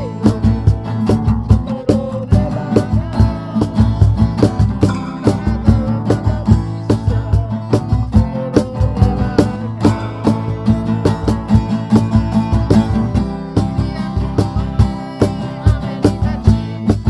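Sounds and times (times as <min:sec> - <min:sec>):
strummed guitar: 0:00.0 - 0:17.0.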